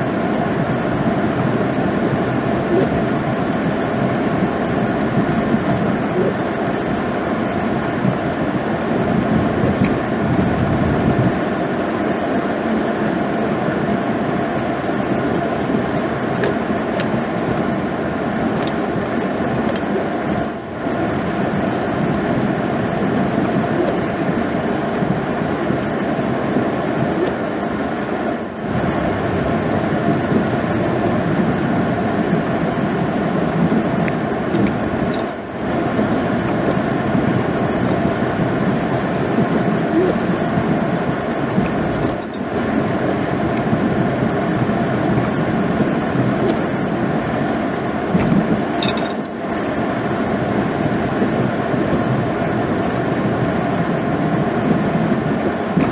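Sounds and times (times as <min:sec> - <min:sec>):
truck engine drone: 0:00.0 - 0:53.8.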